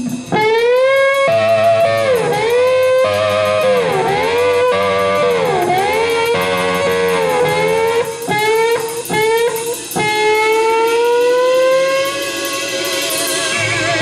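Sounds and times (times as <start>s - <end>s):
electric guitar notes bending: 0.0s - 14.0s.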